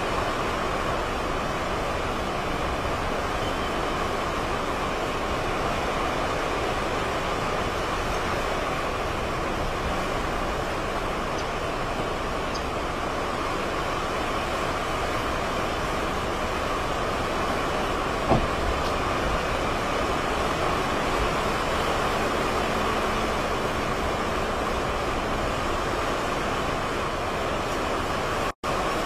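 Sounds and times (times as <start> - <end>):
strong wind through trees: 0.0 - 29.0.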